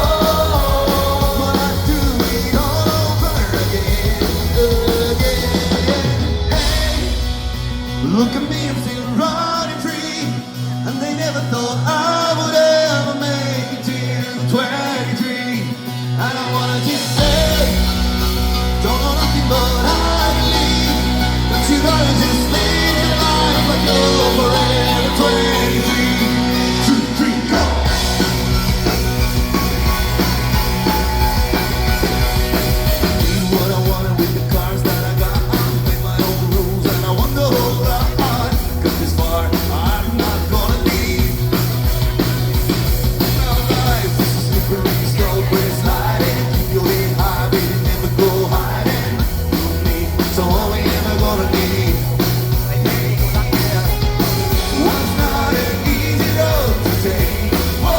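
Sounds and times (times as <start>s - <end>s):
live rock band playing: 0.0s - 57.9s
person singing: 0.0s - 57.9s.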